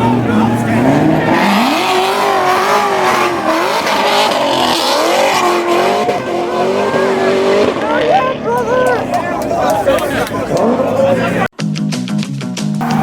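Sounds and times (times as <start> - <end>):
car engine revving: 0.0 - 11.5.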